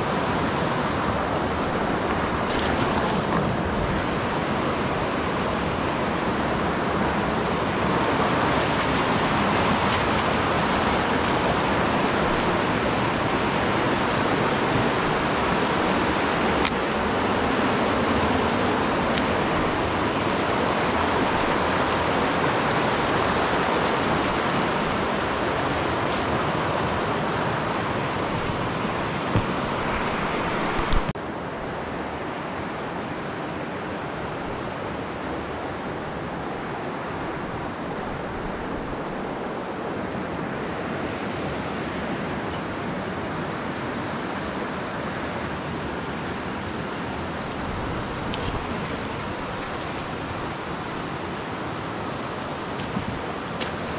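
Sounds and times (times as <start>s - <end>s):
stream rushing over boulders: 0.0s - 53.9s.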